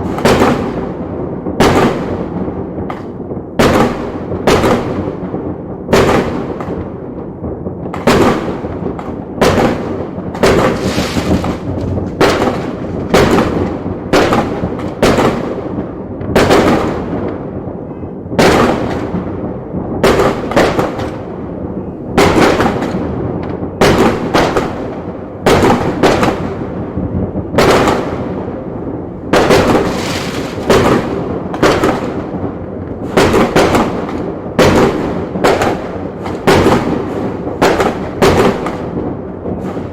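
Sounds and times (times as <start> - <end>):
firework crackle: 0.0 - 17.6, 18.3 - 39.9
loud firework bangs: 0.0 - 39.9.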